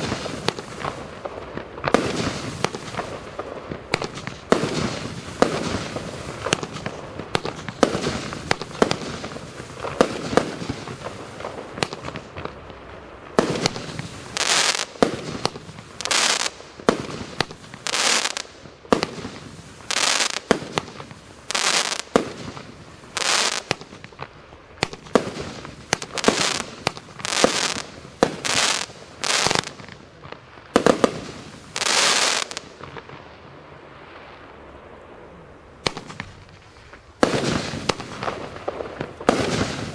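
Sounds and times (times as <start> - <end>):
short rushing firework bursts: 0.0 - 12.5, 13.3 - 24.1, 24.8 - 30.0, 30.7 - 32.9, 35.8 - 39.9
firework pops and bangs: 0.0 - 33.3, 35.8 - 39.9.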